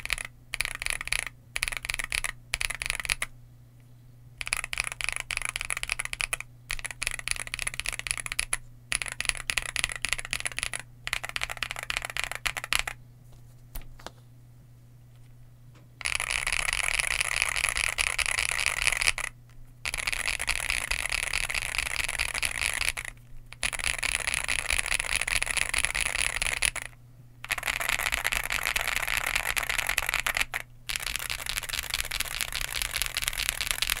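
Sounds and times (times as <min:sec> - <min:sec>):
mechanical keyboard typing: 0:00.0 - 0:03.3, 0:04.4 - 0:13.0, 0:16.0 - 0:19.3, 0:19.9 - 0:34.0.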